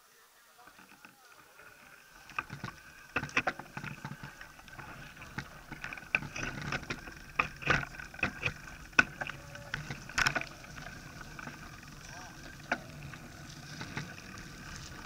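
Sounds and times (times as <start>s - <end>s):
bike rattling and jolting: 0.7s - 15.0s.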